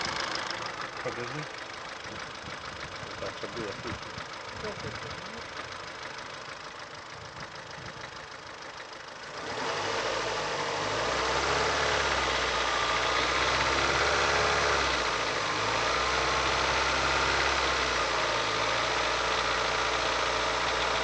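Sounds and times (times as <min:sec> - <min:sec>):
car engine with ticking knock: 0:00.0 - 0:21.0.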